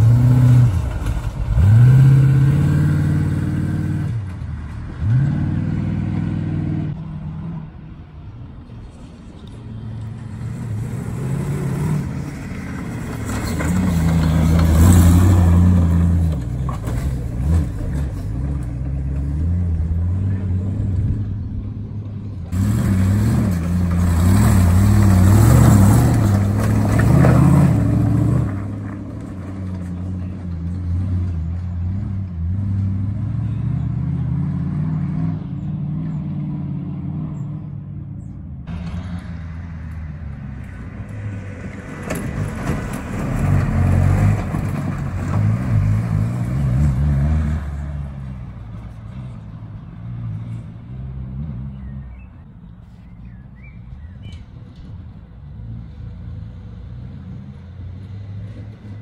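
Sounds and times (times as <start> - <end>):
off-road vehicle engine revving: 0.0 - 7.6, 10.0 - 52.4.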